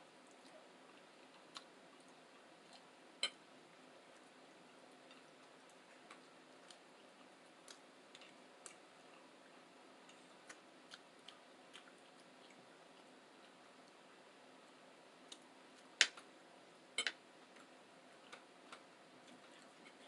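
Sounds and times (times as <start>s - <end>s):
soft chewing clicks: 0.1s - 16.4s, 17.0s - 20.0s.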